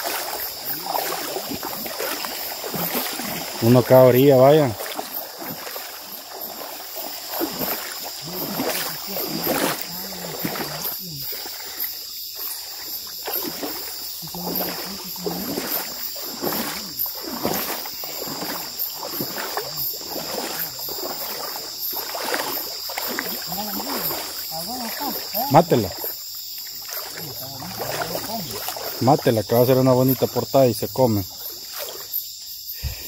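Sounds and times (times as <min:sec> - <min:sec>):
high-pitched insect chorus: 0:00.0 - 0:33.0
water splashing in a river: 0:00.0 - 0:33.0.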